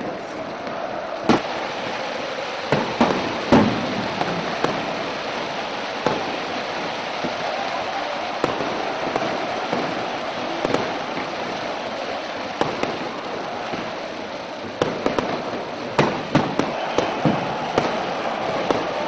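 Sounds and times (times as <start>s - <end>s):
fireworks bangs: 0.0s - 19.0s
large crowd noise: 0.0s - 19.0s.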